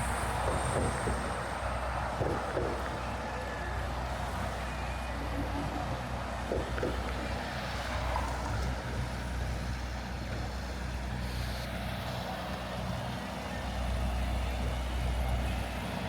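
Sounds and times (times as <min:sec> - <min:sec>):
heavy truck engine: 0:00.0 - 0:16.0
traffic engines rumbling: 0:00.0 - 0:16.0.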